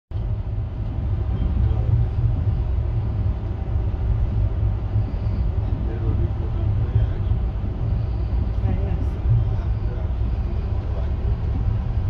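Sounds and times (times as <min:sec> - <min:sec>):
train rumbling on track: 0:00.1 - 0:12.0.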